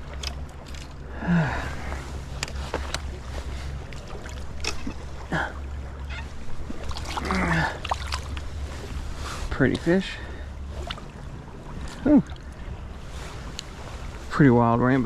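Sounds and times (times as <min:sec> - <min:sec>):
stream water splashing: 0:00.0 - 0:14.8
wind rumble on microphone: 0:00.0 - 0:15.0.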